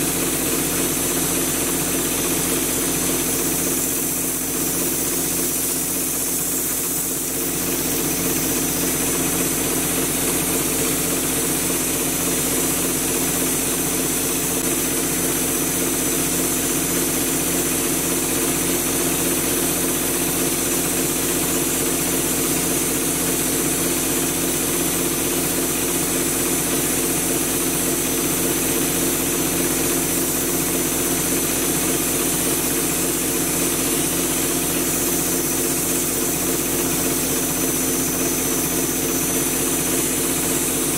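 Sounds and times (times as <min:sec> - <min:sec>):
air compressor humming: 0:00.0 - 0:40.9
texture spray gun hissing: 0:00.0 - 0:40.9.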